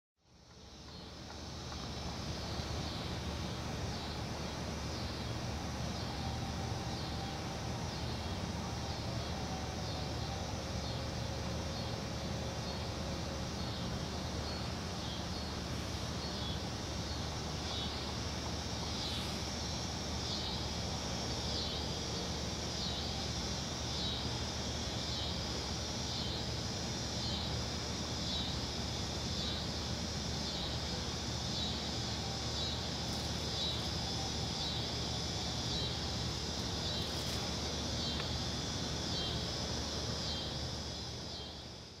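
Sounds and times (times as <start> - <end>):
low background hum: 0.2 - 42.0
insects trilling: 0.3 - 42.0.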